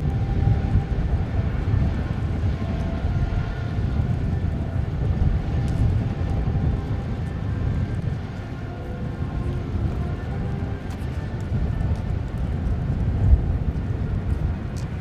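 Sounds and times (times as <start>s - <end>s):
jet engines rumbling with whine: 0.0s - 15.0s.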